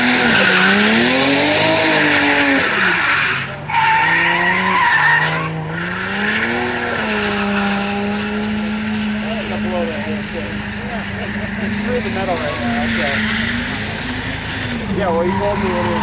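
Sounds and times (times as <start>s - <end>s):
car engine revving: 0.0s - 16.0s
tyres screeching: 0.0s - 16.0s.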